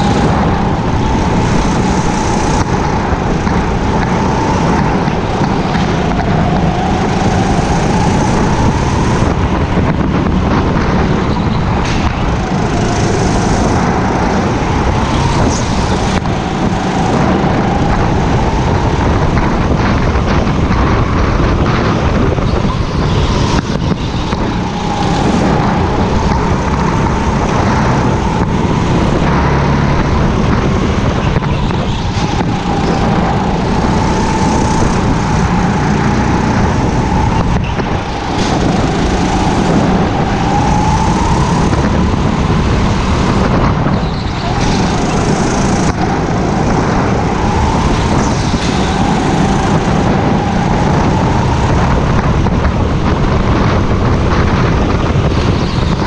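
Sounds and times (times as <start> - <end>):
go-kart engine: 0.0 - 56.0.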